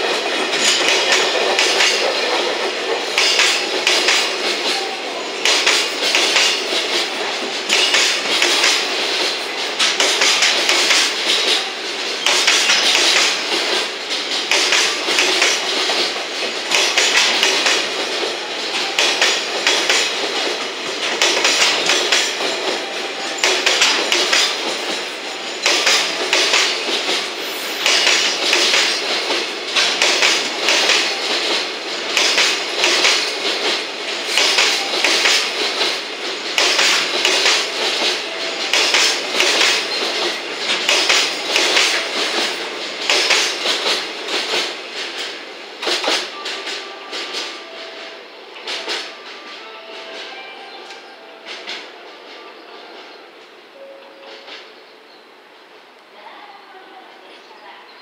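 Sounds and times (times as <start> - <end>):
train wheels clattering over rail joints: 0.0 - 48.0, 48.6 - 50.3.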